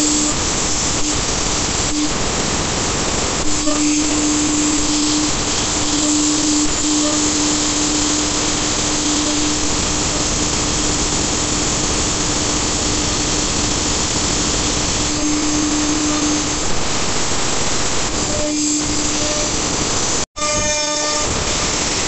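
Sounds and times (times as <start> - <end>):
router spindle whine: 0.0 - 2.2, 3.4 - 22.0.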